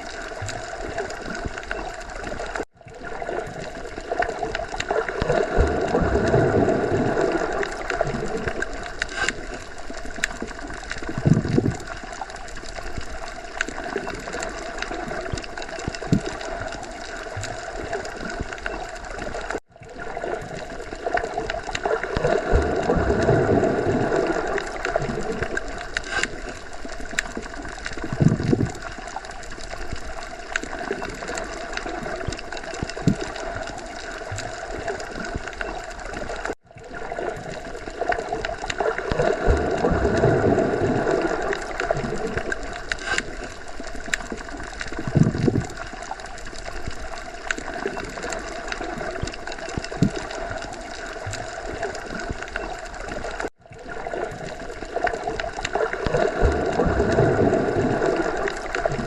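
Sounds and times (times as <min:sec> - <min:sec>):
underwater gurgling and bubbling: 0:00.0 - 0:59.0.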